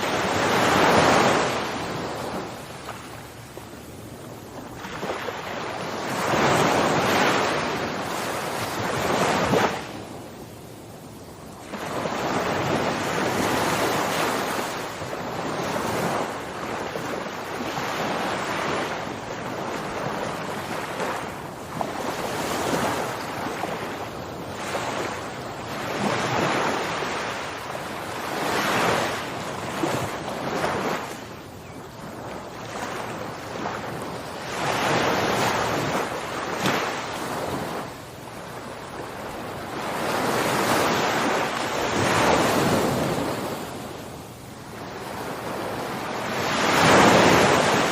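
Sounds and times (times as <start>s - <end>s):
waves washing in: 0.0s - 10.8s, 11.4s - 47.9s.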